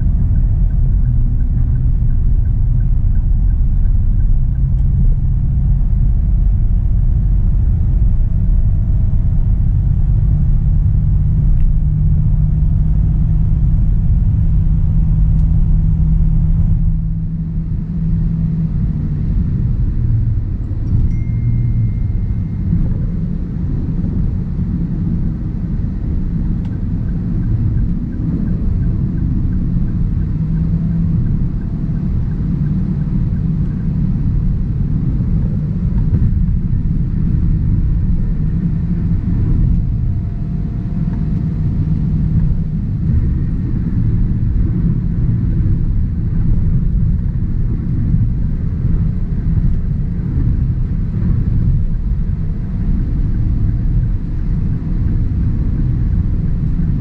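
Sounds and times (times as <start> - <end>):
car engine running: 0.0 - 57.0
road and tyre rumble: 0.0 - 57.0.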